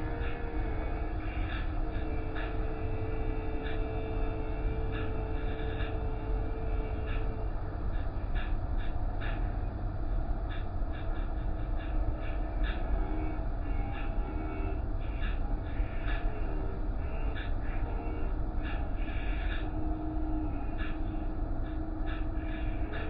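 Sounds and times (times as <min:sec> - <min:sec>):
car wash machinery rumble: 0:00.0 - 0:23.0
motor hum: 0:00.0 - 0:23.0.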